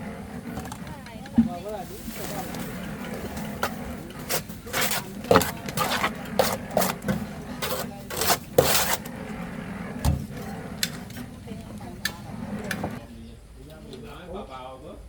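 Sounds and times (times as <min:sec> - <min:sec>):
scraping and knocking strokes: 0:00.0 - 0:13.0.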